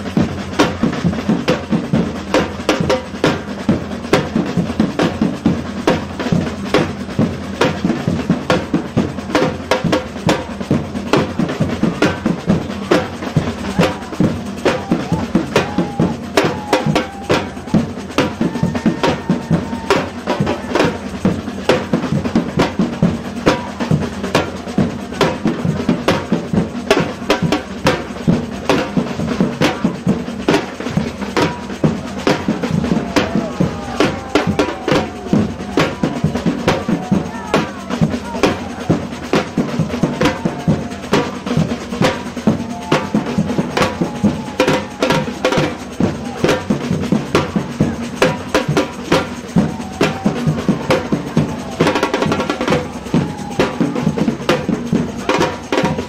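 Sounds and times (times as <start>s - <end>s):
samba bass drums: 0.0s - 56.0s
crowd voices: 8.6s - 56.0s.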